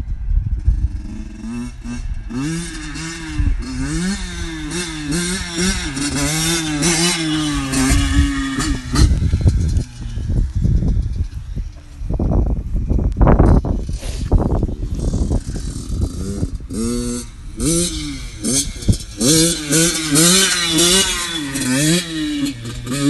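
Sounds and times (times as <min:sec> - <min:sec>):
low rumbling: 0:00.0 - 0:23.0
motorcycle engine revving: 0:00.0 - 0:23.0.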